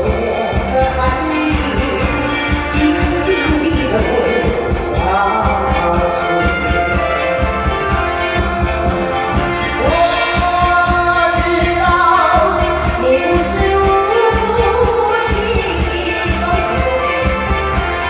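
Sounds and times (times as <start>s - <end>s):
music with steady beat: 0.0s - 18.0s
person singing long notes: 0.0s - 18.0s.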